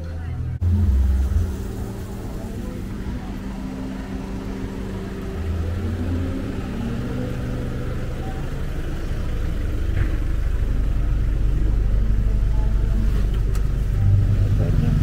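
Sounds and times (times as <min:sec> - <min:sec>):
engine idling: 0:00.0 - 0:15.0
low rumble: 0:00.0 - 0:15.0.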